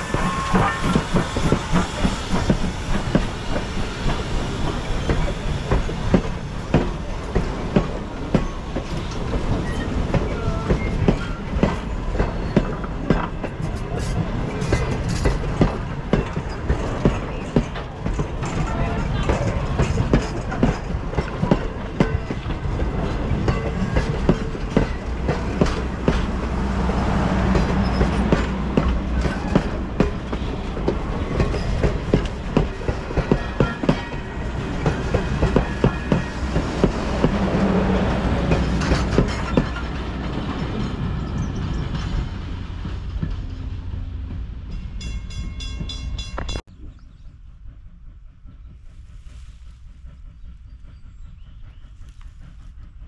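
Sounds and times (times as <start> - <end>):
steam train wheels clattering: 0.0 - 53.0.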